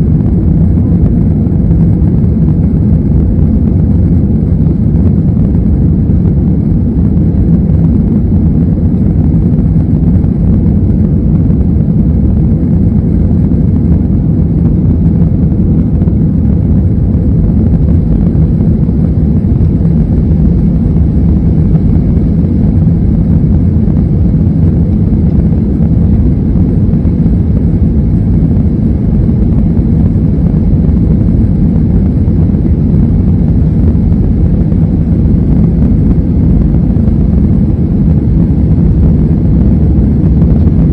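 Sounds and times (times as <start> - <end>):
jet engines roaring: 0.0 - 40.9.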